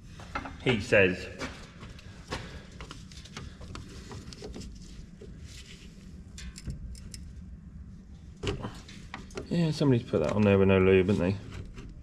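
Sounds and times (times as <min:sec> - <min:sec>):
steady low rumble: 0:00.8 - 0:11.1.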